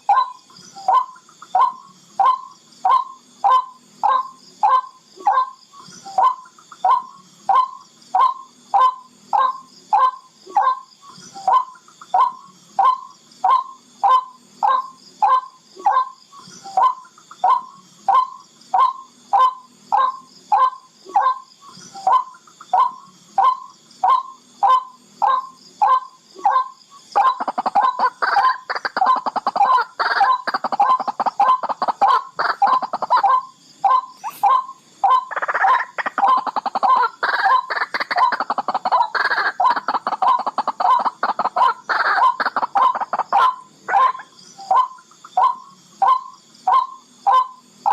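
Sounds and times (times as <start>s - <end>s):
rapid rattling bird call: 0.0s - 47.9s.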